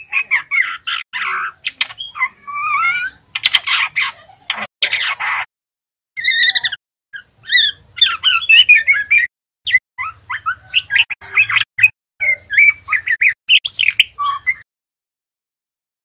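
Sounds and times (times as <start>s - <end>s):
bird twittering chirps: 0.0s - 5.5s, 6.2s - 14.7s.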